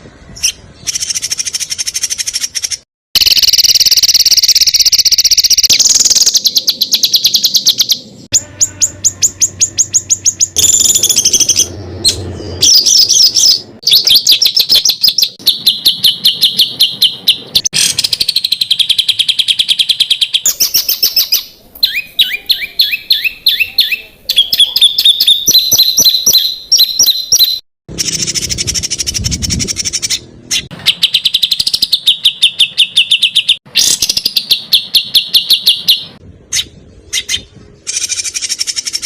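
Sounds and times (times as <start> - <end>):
songbirds trilling: 0.2 - 39.0.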